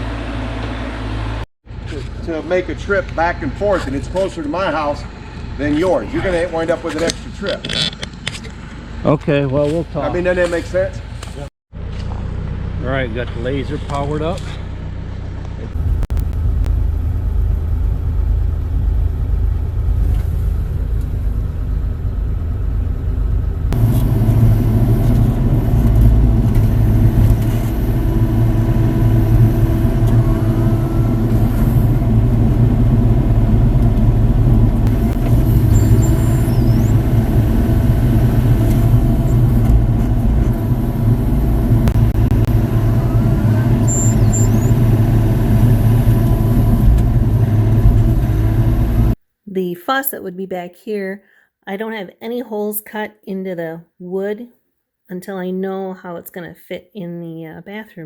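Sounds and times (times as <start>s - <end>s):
heavy machinery engine running: 0.0s - 49.2s.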